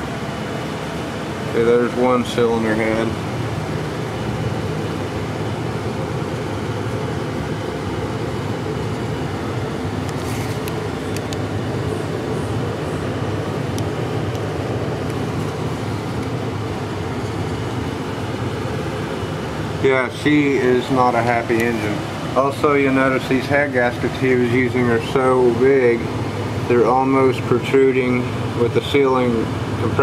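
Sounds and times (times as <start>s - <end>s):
fan droning: 0.0s - 30.0s.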